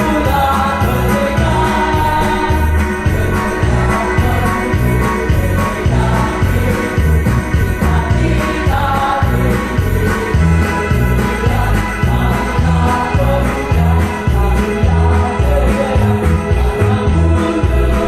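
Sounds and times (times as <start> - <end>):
music with steady bass beat: 0.0 - 18.0.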